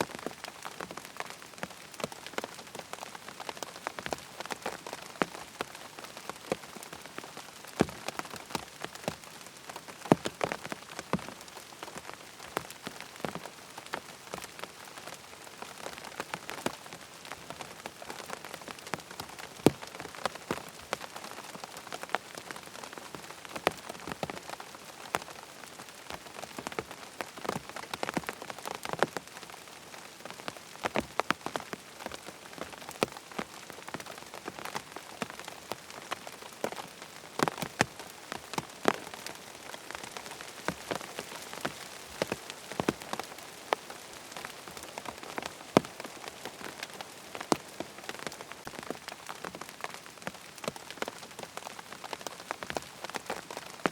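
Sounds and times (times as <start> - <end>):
rain falling on a tent: 0.0 - 53.9.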